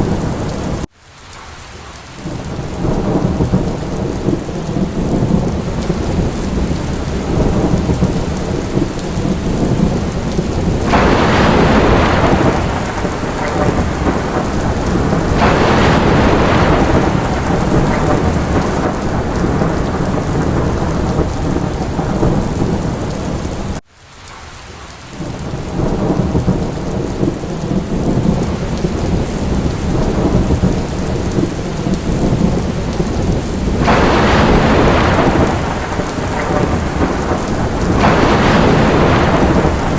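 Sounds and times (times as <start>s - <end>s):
low rumble of thunder: 0.0s - 0.9s, 2.2s - 23.8s, 25.2s - 39.9s
heavy rain: 0.0s - 39.9s.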